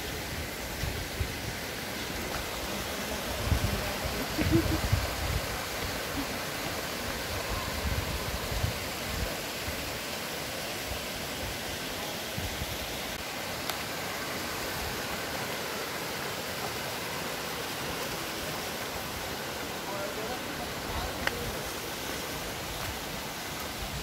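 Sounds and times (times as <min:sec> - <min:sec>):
water flowing over rocks: 0:00.0 - 0:24.0.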